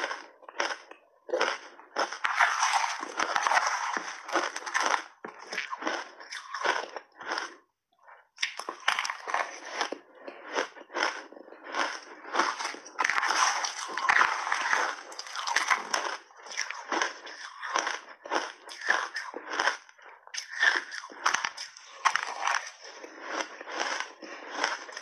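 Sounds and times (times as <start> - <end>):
crunching and chewing ice: 0.0 - 25.0.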